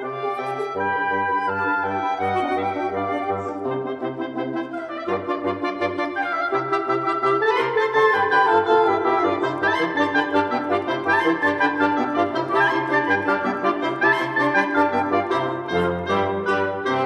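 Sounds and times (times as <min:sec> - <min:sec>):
background music melody: 0:00.0 - 0:17.0.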